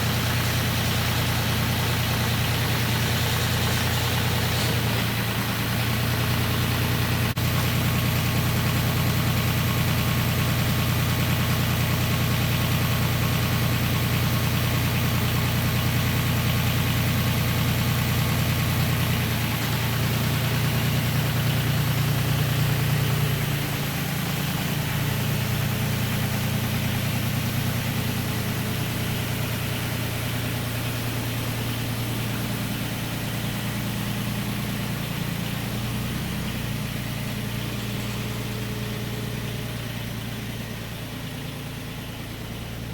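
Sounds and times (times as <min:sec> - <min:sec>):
engine idling: 0:00.0 - 0:42.9.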